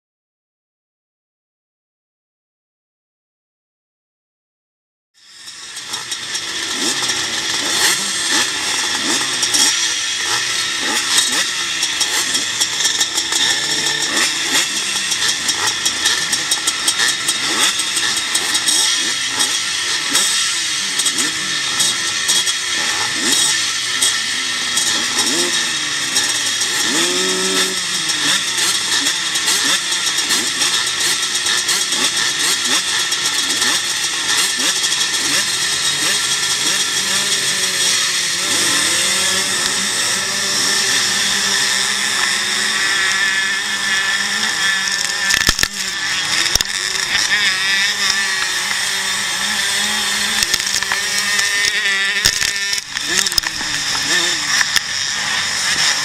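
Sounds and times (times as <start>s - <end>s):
motocross engines revving: 5.2s - 56.0s.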